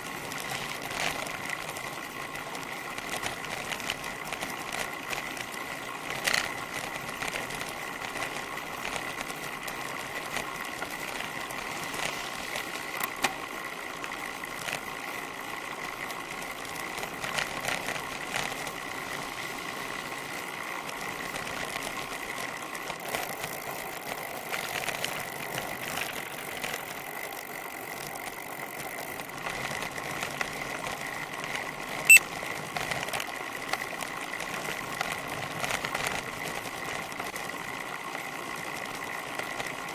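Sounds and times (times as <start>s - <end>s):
bicycle whirr and road noise: 0.0s - 39.9s.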